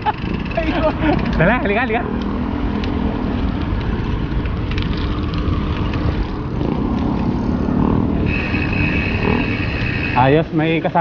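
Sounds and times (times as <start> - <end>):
wind buffeting microphone: 0.0 - 10.2
road traffic rumble: 0.0 - 11.0.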